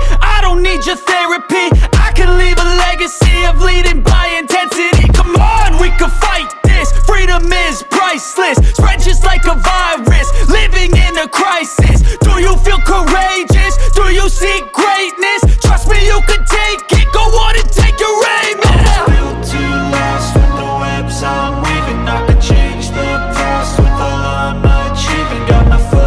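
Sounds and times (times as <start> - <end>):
hip-hop beat with heavy bass: 0.0 - 26.0.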